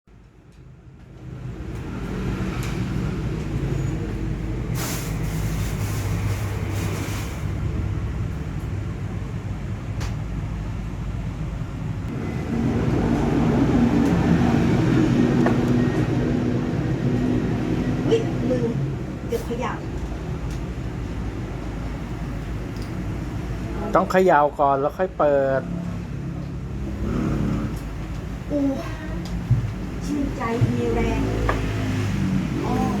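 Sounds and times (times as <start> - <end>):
vehicle engine rumbling: 0.2 - 24.0, 24.6 - 33.0.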